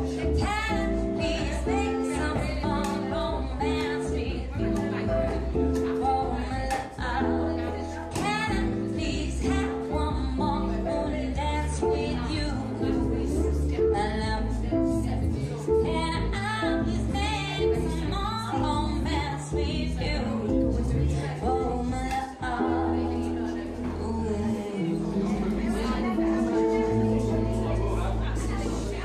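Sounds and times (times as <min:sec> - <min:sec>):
woman singing: 0:00.0 - 0:28.0
guitar: 0:00.0 - 0:29.0
plucked double bass: 0:00.0 - 0:29.0.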